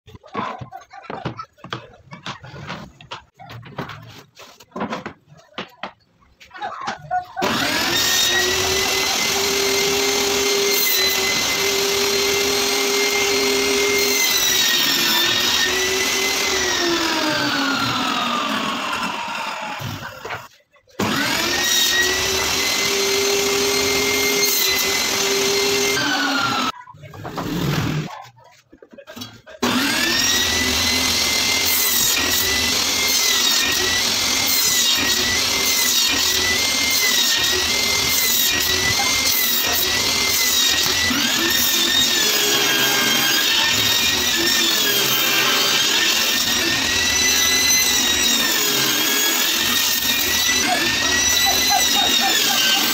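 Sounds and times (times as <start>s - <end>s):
table saw whining: 7.4s - 28.1s, 29.2s - 52.9s.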